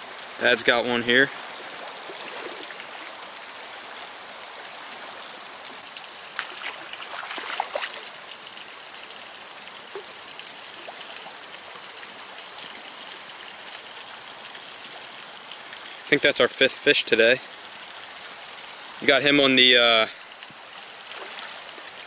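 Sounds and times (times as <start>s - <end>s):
creek water flowing over stones: 0.0s - 22.0s
water splashes: 0.0s - 22.0s.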